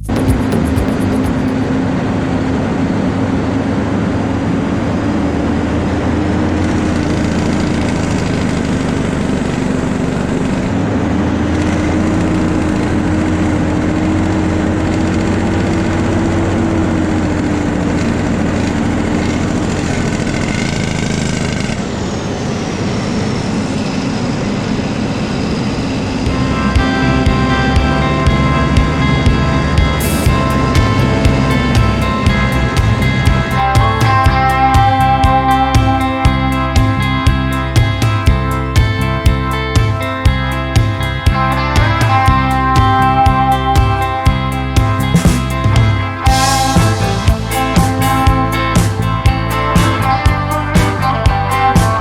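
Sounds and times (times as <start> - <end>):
high whine: 0.0 - 52.0
truck engine running: 0.0 - 52.0.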